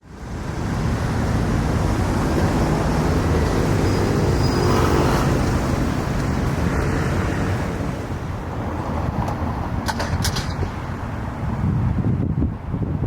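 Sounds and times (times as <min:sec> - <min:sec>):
city street traffic rumble: 0:00.0 - 0:13.0
vehicle engine hum: 0:00.0 - 0:13.0.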